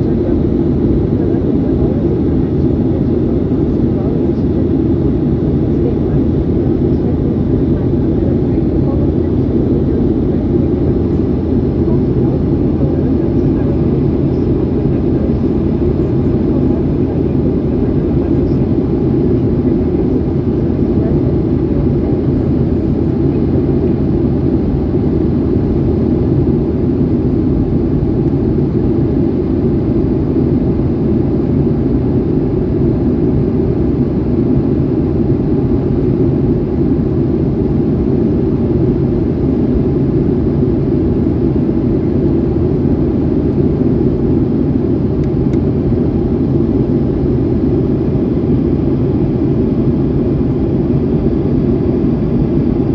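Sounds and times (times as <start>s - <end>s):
jet engine cabin hum: 0.0s - 52.9s.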